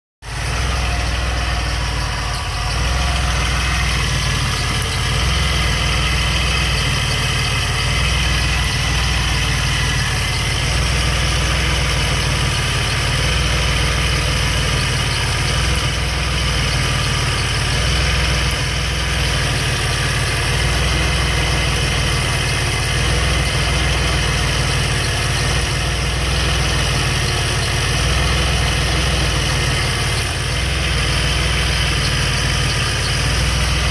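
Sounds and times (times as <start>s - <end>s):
car engine idling: 0.2s - 33.9s
engine ticking: 0.2s - 33.9s.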